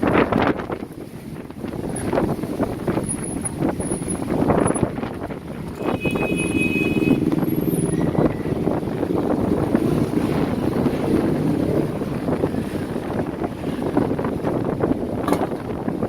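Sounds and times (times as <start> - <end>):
road noise: 0.0 - 16.0
vehicle engines running: 0.0 - 16.0
wind buffeting microphone: 0.0 - 16.0.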